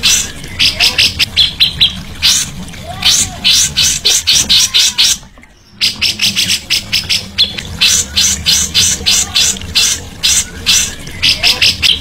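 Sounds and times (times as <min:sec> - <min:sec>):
songbird scratchy notes: 0:00.0 - 0:12.0.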